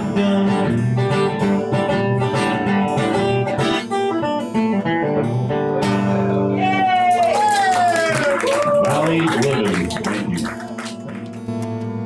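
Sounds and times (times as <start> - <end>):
acoustic guitar strumming: 0.0 - 7.0, 8.9 - 12.0.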